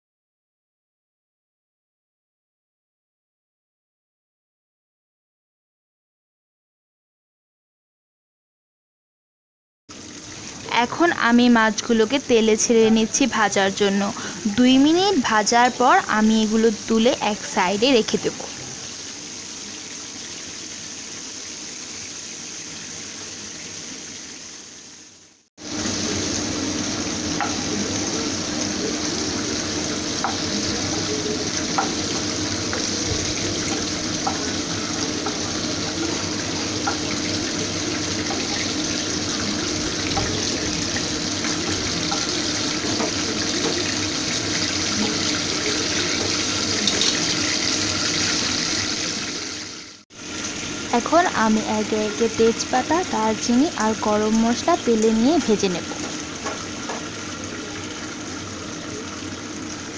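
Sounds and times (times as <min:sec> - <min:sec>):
shrimp sizzling in oil: 0:09.9 - 0:59.9.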